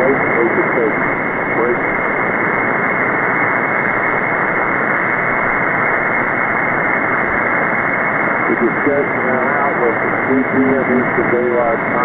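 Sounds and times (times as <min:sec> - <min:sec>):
shortwave radio static hiss: 0:00.0 - 0:12.0.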